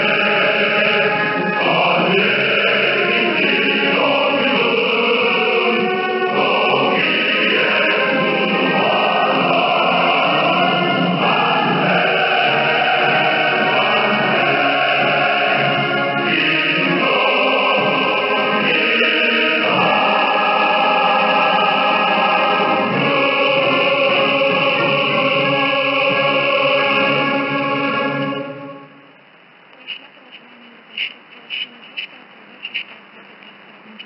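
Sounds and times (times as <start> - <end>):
choir singing over shortwave radio: 0.0 - 34.0.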